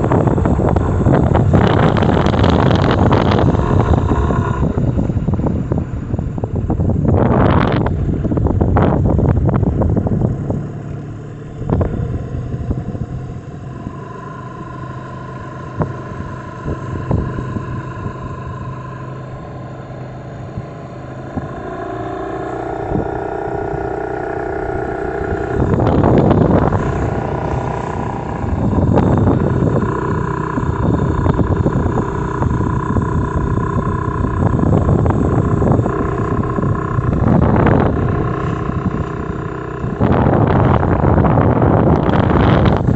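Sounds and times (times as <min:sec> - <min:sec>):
outboard motor running: 0:00.0 - 0:42.9
wind gusts on microphone: 0:00.0 - 0:42.9.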